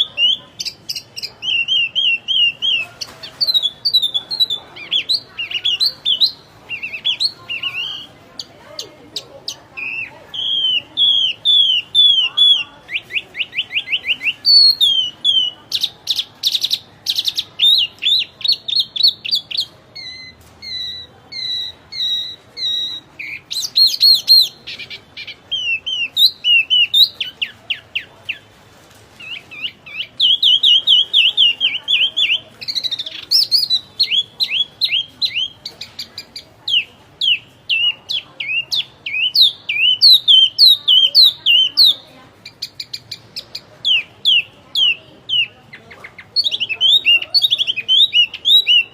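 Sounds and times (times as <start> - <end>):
songbird singing chirps and trills: 0.0 - 48.9.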